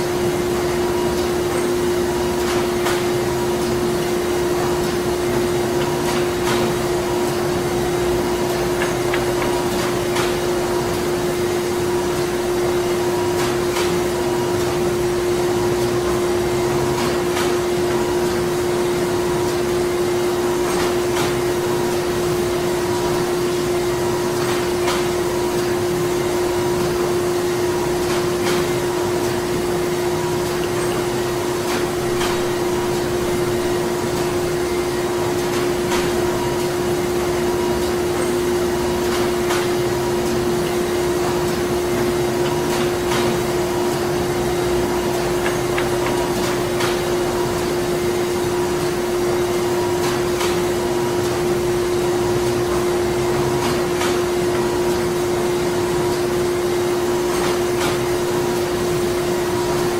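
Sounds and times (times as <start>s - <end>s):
machinery humming: 0.0s - 59.9s.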